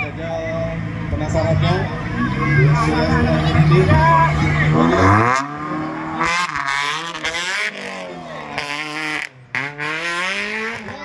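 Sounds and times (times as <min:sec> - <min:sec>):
buggy engine revving hard: 0:00.7 - 0:11.0.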